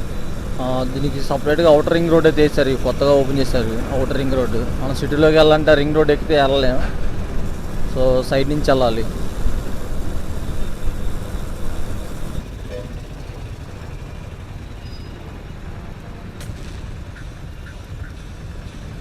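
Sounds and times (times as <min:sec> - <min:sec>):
motorcycle wind and road noise: 0:00.0 - 0:19.0.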